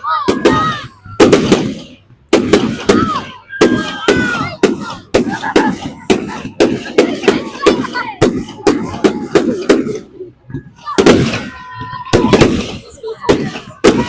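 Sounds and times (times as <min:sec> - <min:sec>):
fireworks bangs with echoes: 0:00.0 - 0:14.0.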